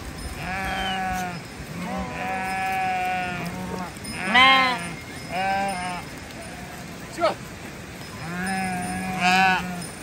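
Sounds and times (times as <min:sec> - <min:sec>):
sheep bleating: 0:00.4 - 0:06.9, 0:08.2 - 0:09.9.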